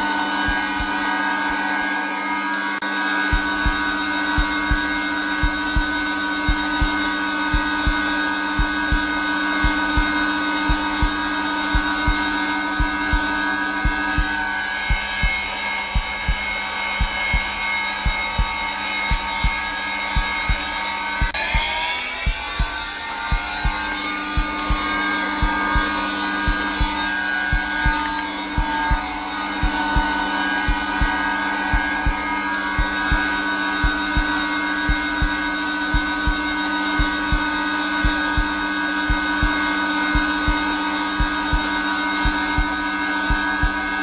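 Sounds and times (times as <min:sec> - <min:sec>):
heartbeat double thumps: 0:00.0 - 0:01.0, 0:03.3 - 0:44.0
vacuum cleaner whining hum: 0:00.0 - 0:44.0.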